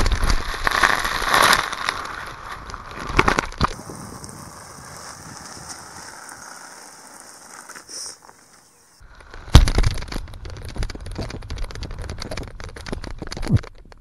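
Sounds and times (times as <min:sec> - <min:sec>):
faint outdoor background: 0:01.4 - 0:14.0.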